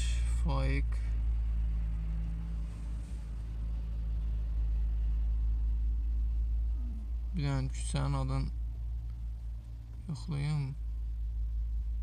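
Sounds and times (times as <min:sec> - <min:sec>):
car engine rumble inside cabin: 0:00.0 - 0:12.0
faint steady hum: 0:00.0 - 0:12.0.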